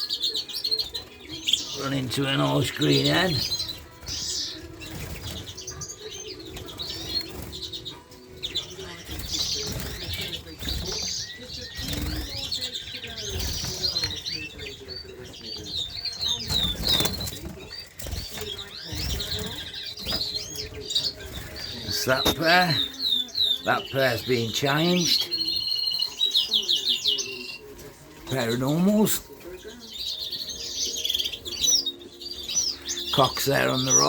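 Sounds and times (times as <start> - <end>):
birds chirping: 0.0 - 34.0
birds fluttering wings: 0.0 - 34.0.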